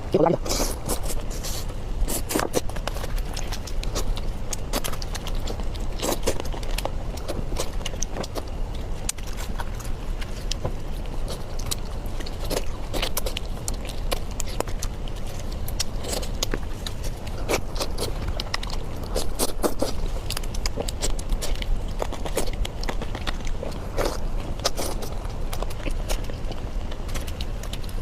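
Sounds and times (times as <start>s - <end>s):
crunchy biting and chewing: 0.0s - 28.0s
steady low hum: 0.0s - 28.0s.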